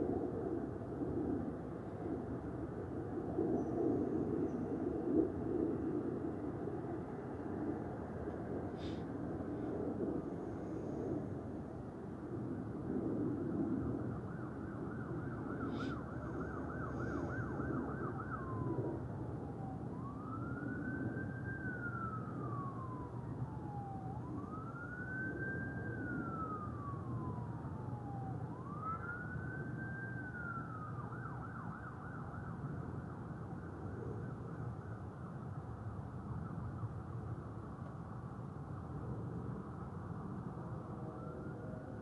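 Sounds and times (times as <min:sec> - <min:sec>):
emergency siren yelp and wail: 0:00.0 - 0:42.0.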